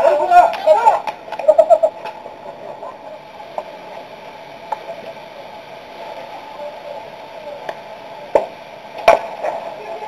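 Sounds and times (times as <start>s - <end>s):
distant players' voices: 0.0s - 10.0s.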